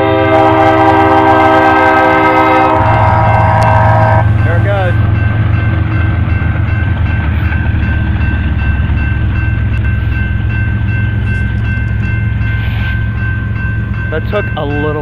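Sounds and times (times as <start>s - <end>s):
train engines and wheels rumbling: 0.0s - 15.0s
steady high tone: 0.6s - 15.0s.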